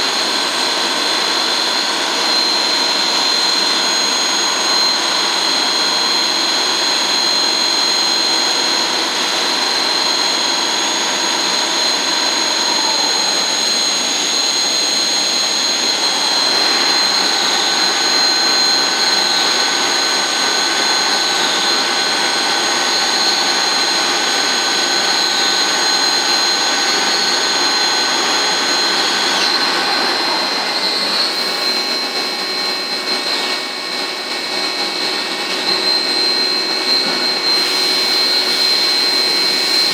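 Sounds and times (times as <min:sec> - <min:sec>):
lathe whining: 0:00.0 - 0:39.9.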